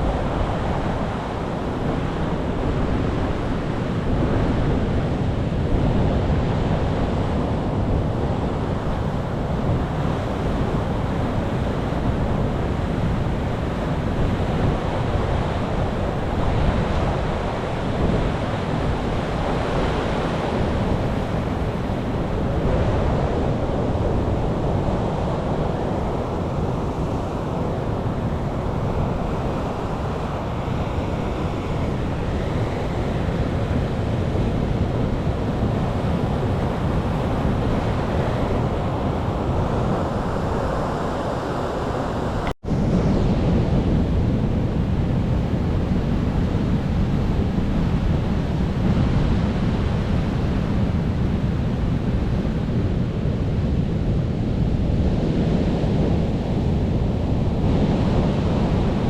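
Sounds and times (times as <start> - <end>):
ocean waves breaking on shore: 0.0 - 59.0
wind rumbling on microphone: 0.0 - 59.0.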